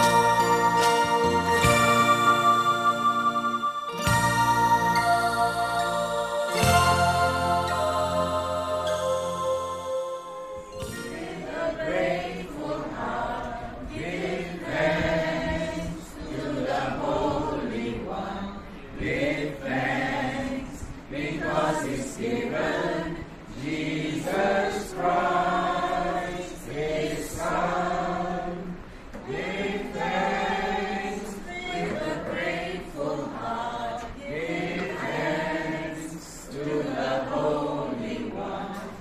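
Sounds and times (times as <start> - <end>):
men and women singing together: 4.1 - 9.9, 10.5 - 39.0.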